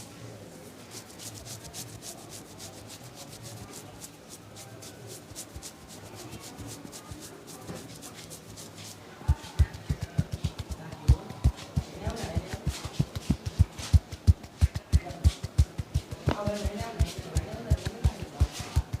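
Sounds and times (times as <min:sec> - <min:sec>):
hands rubbing over skin and hair: 0:00.0 - 0:19.0.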